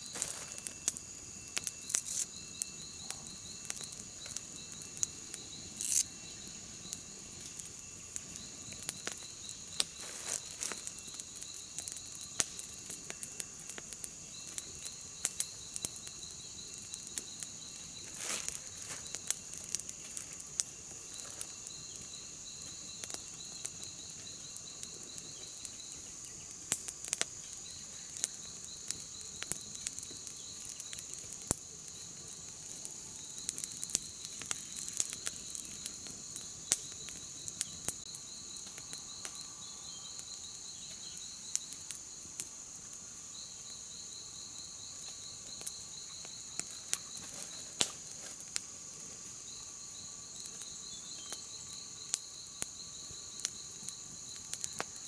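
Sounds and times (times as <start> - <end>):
high continuous insect trill: 0.0 - 55.0
pulsing insect trill: 0.0 - 55.0.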